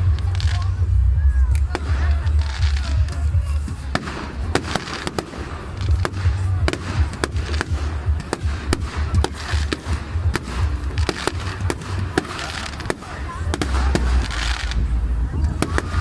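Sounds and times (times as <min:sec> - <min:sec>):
fireworks bangs and crackles: 0:00.0 - 0:16.0
low rumble: 0:00.0 - 0:16.0.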